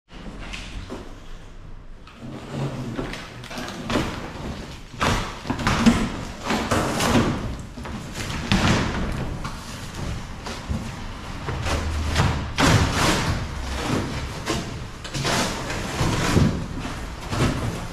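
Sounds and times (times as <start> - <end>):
cardboard rasping and scraping: 2.1 - 17.9
cardboard panels thudding: 3.0 - 17.9.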